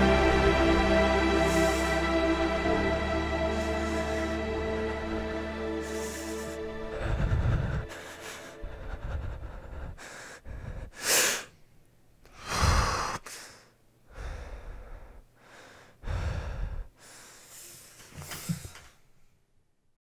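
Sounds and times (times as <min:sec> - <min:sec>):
man breathing heavily: 0:00.0 - 0:11.6, 0:12.3 - 0:19.0.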